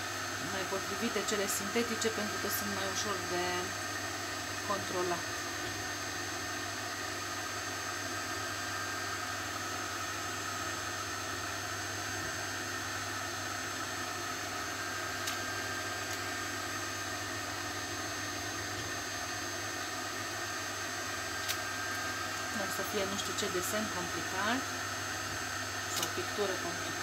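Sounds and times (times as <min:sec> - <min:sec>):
background hum and hiss: 0:00.0 - 0:27.0.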